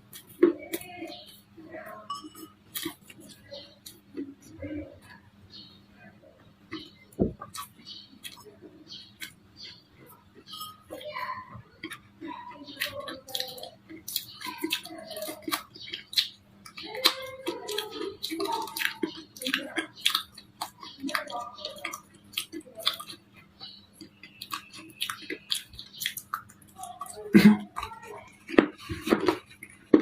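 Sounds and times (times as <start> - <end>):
chewing and crunching clay: 0.0 - 30.0.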